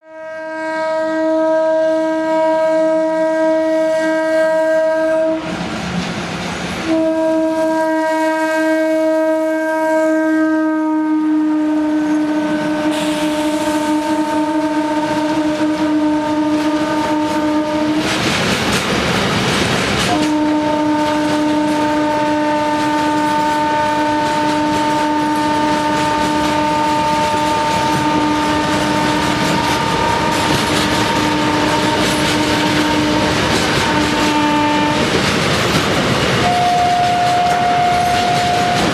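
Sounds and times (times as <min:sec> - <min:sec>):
train horn long note: 0:00.0 - 0:05.6, 0:06.8 - 0:18.2, 0:20.0 - 0:35.3, 0:36.4 - 0:38.9
train rumbling on rails: 0:00.1 - 0:38.9.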